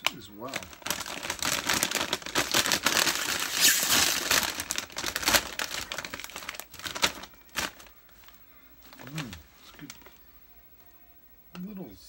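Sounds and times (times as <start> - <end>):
chip bag crinkling: 0.0 - 10.2.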